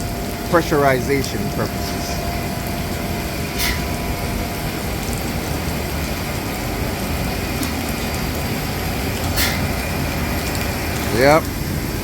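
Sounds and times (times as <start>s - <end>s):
machinery rumbling: 0.0s - 12.0s
rain hissing: 0.0s - 12.0s.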